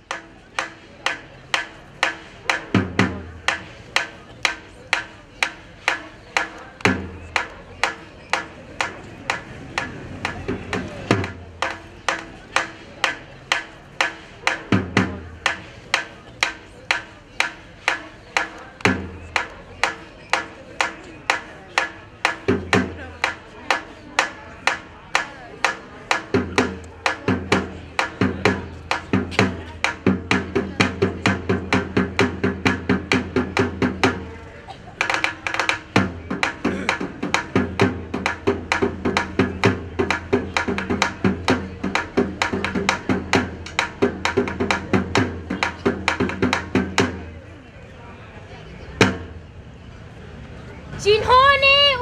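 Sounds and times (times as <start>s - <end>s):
drum beaten with sticks: 0.0s - 47.3s, 49.0s - 49.5s.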